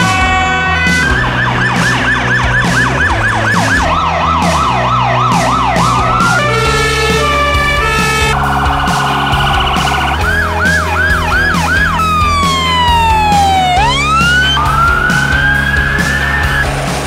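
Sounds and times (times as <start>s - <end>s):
electronic sirens: 0.0s - 16.9s.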